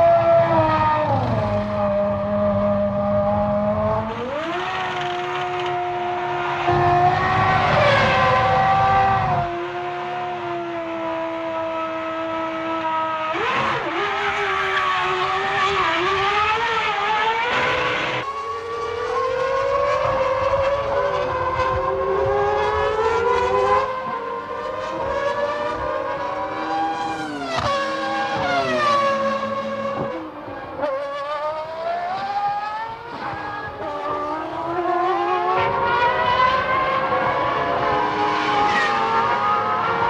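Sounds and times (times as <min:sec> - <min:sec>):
racing car engines revving: 0:00.0 - 0:40.0.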